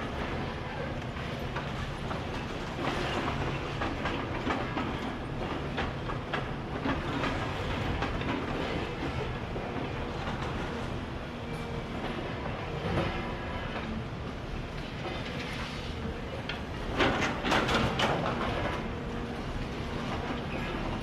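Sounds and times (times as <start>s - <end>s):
excavator running: 0.0s - 21.0s.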